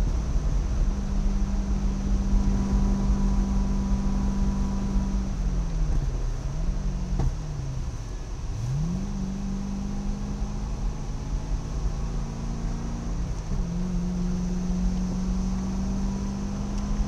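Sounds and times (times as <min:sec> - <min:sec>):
car engine revving: 0:00.0 - 0:17.0
road and wind rumble: 0:00.0 - 0:17.0.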